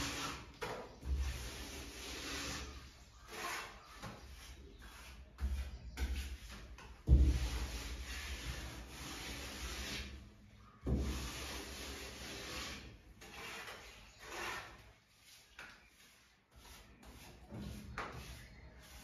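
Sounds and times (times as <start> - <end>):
hand float scraping plaster: 0.0 - 19.0.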